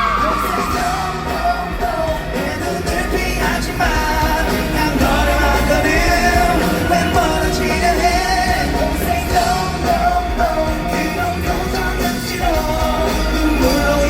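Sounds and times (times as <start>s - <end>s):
live pop-rock band playing: 0.0s - 14.0s
person singing lead vocal: 0.0s - 14.0s.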